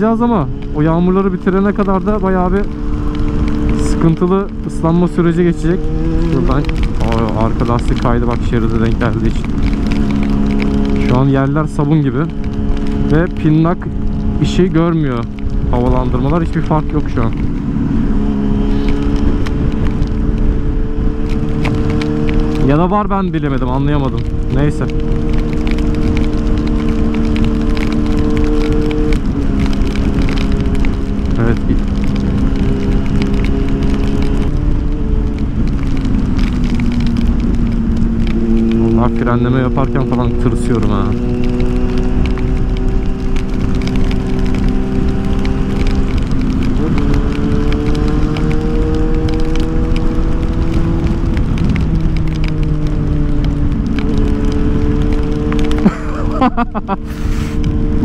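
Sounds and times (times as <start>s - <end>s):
motorcycle engine running: 0.0s - 58.0s
raindrops ticking on helmet: 0.0s - 58.0s
road and wind noise: 0.0s - 58.0s.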